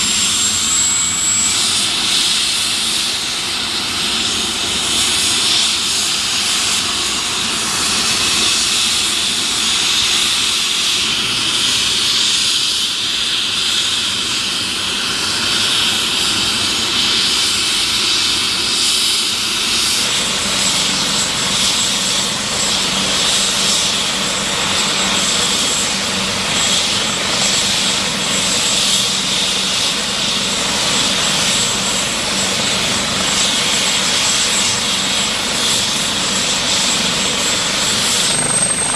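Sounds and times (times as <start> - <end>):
helicopter turbine whine and rush: 0.0 - 38.9.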